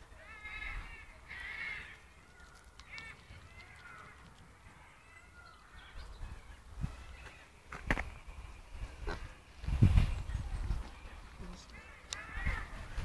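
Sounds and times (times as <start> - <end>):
birds calling harshly: 0.0 - 13.0.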